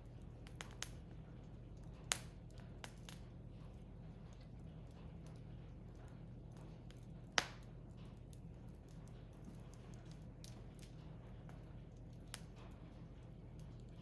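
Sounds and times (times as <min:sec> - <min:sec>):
firewood crackling: 0:00.0 - 0:14.0.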